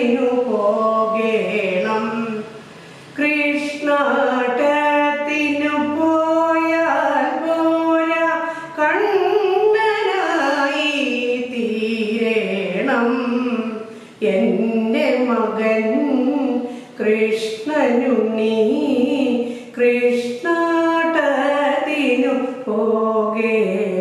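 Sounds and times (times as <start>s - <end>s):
woman singing devotional song: 0.0s - 24.0s.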